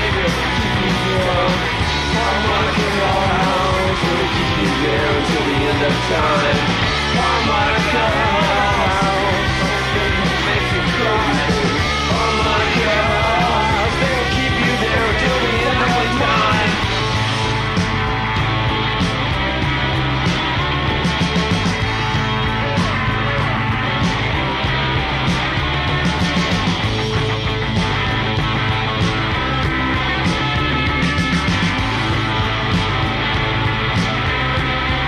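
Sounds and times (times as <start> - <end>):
bending lead guitar line: 0.0 - 35.0
live punk rock band: 0.0 - 35.0.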